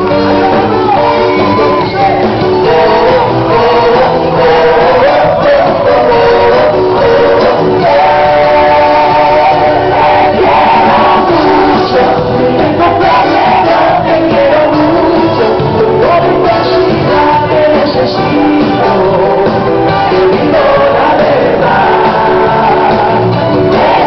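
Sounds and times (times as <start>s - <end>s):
live band music: 0.0s - 24.0s
person singing: 0.0s - 24.0s.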